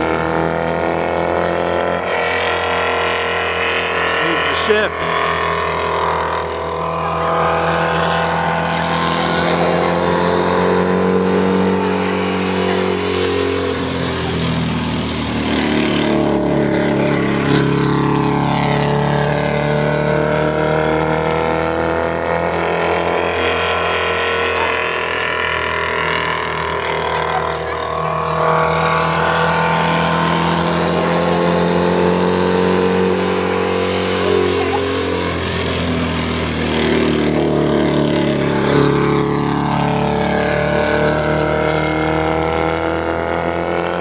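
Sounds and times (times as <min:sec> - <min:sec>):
race car engine running hard: 0:00.0 - 0:44.0.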